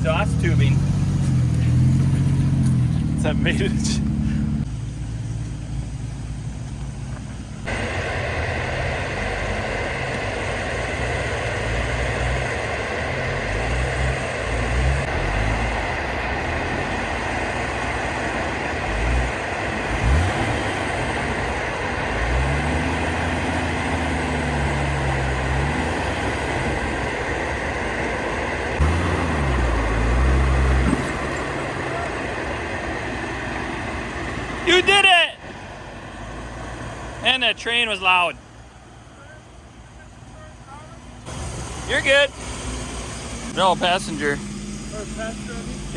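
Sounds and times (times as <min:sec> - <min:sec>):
engine revving: 0:00.0 - 0:06.8, 0:07.6 - 0:45.9
loud train passing: 0:07.6 - 0:45.9.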